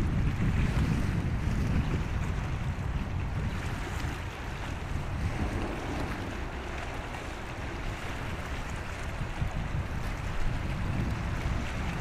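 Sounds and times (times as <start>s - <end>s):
open water ambience: 0.0s - 12.0s
wind buffeting microphone: 0.0s - 12.0s.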